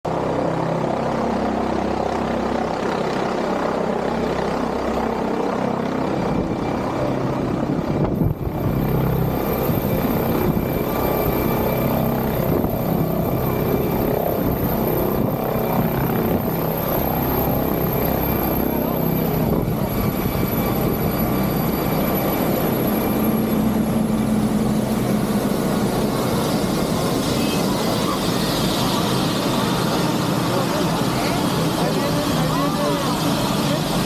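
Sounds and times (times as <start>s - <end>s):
helicopter drone: 0.1s - 34.0s.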